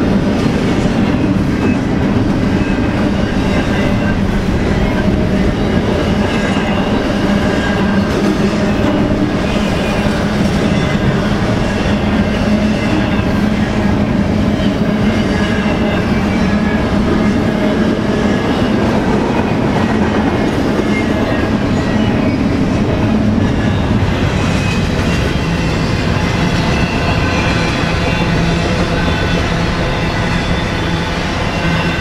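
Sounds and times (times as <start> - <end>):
train wheels roaring on rail: 0.0 - 32.0.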